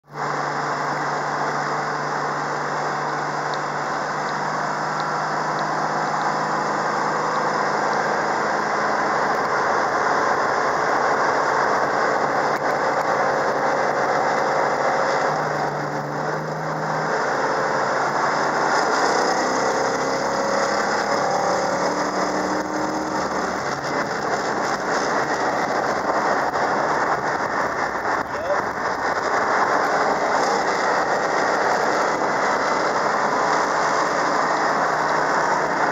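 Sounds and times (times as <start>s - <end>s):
car engine running steadily: 0.0s - 35.9s.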